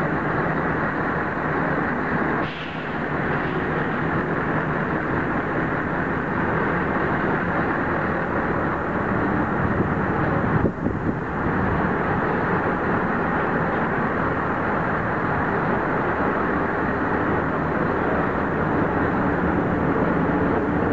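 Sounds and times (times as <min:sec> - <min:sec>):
ferry engine rumble: 0:00.0 - 0:20.9.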